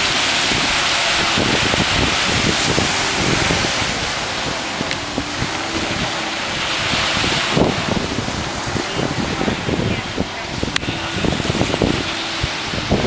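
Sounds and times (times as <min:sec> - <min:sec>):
sea water rushing: 0:00.0 - 0:13.0
wind buffeting microphone: 0:00.0 - 0:13.0.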